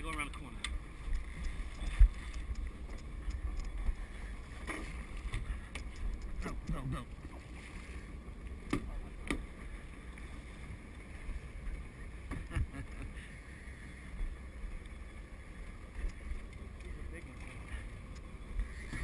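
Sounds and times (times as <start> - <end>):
water rushing around boat: 0.0 - 19.0.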